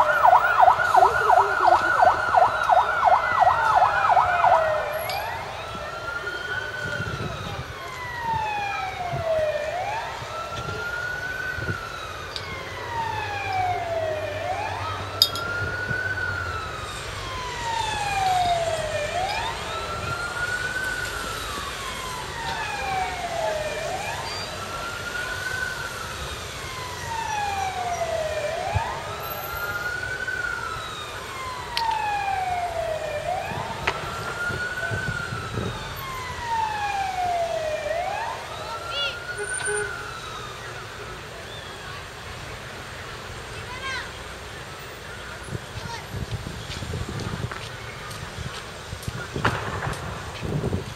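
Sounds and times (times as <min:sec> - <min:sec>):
fire engine siren wailing: 0:00.0 - 0:50.9.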